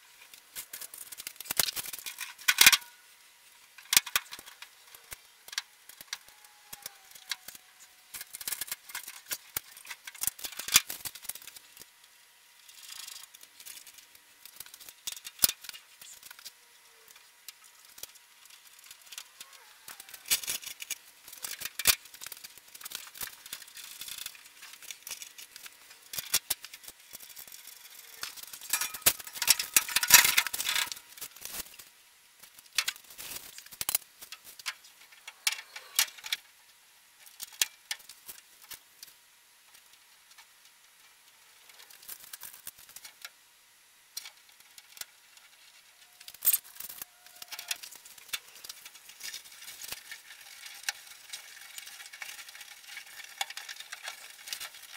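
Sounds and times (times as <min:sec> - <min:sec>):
metal parts clicking and rattling: 0:00.2 - 0:03.0, 0:03.8 - 0:11.9, 0:12.6 - 0:36.4, 0:41.7 - 0:43.3, 0:44.2 - 0:54.9.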